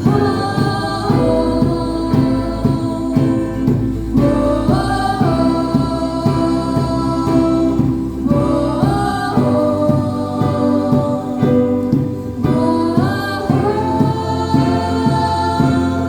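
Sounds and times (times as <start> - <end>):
group singing gospel song: 0.0 - 16.0
instrumental backing: 0.0 - 16.0.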